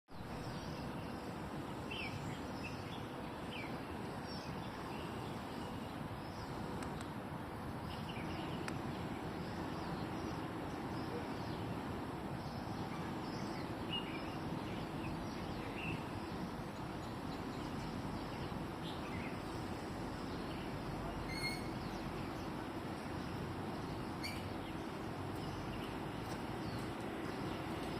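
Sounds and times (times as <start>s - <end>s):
birds chirping: 0.1s - 27.9s
steady rushing background noise: 0.2s - 27.9s.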